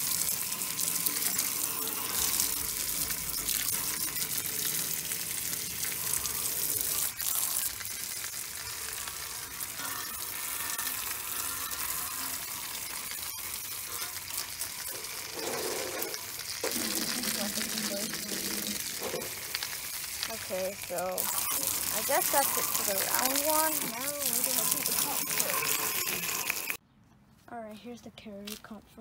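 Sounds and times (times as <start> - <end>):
hose spraying water on metal fins: 0.0 - 26.8.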